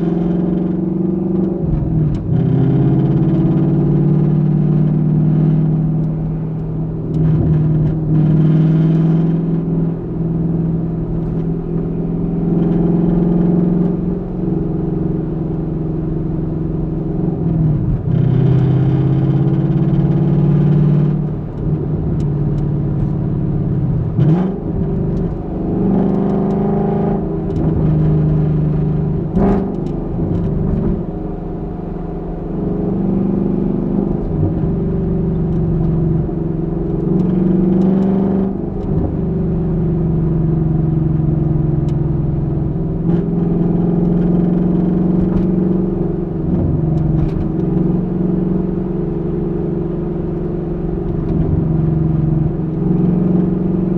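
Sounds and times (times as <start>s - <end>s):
car exhaust at low revs: 0.0s - 53.9s.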